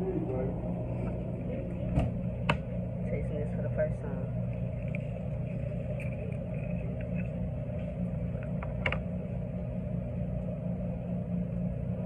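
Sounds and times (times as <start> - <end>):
washing machines and dryers humming: 0.0 - 12.0.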